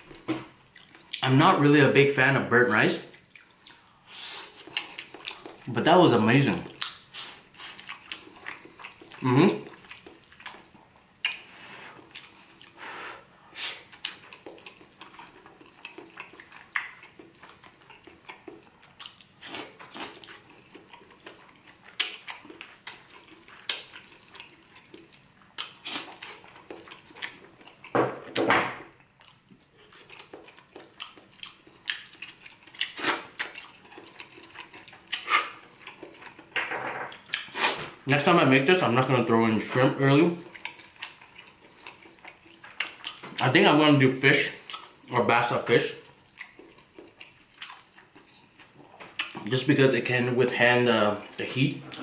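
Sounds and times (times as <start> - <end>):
person chewing: 0.1 - 1.2, 3.1 - 5.7, 6.6 - 38.0, 40.4 - 43.4, 44.4 - 45.1, 46.0 - 49.5.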